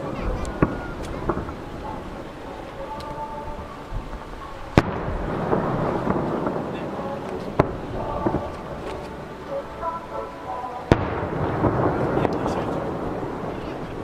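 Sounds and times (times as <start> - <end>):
distant firework bangs: 0.0 - 10.0, 10.8 - 14.0.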